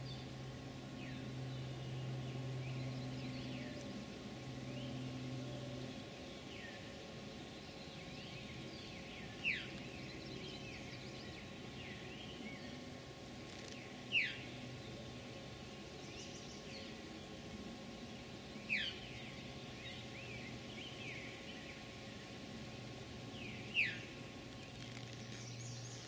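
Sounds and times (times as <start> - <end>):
faint birdsong: 0.0 - 26.0.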